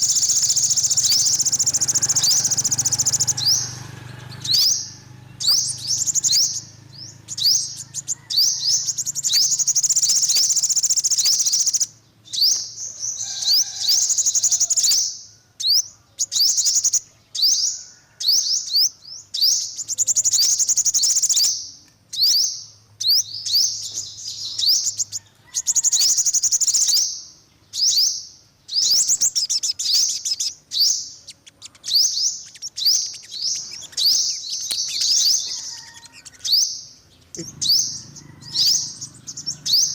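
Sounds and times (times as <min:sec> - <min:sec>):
bird twittering trills: 0:00.0 - 0:39.9.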